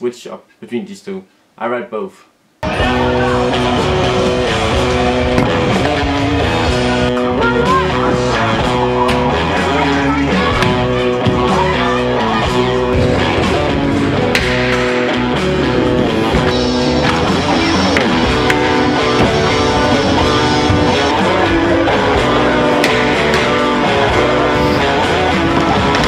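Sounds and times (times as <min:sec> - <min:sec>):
guitar rock music: 0:02.6 - 0:26.0.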